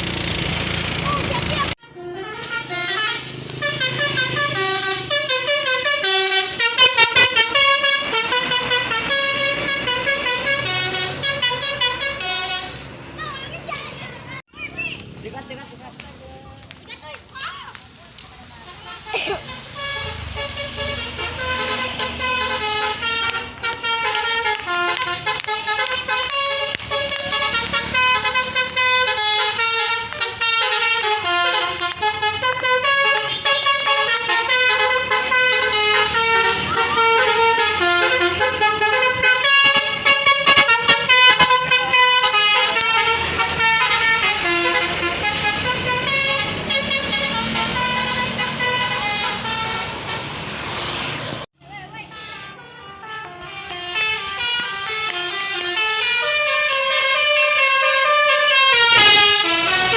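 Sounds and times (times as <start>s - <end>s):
musical horn melody: 1.4s - 13.0s, 18.6s - 50.5s, 51.9s - 59.9s.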